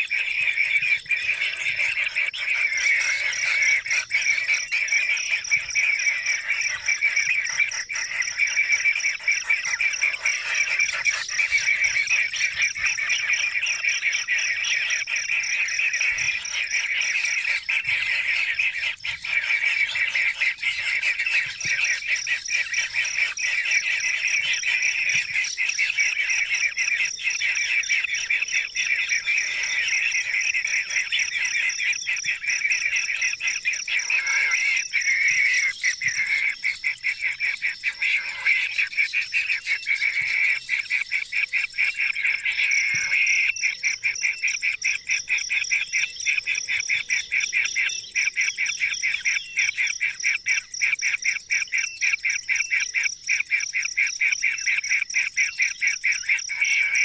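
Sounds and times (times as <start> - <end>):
chorus of trilling animal calls: 0.0 - 57.0.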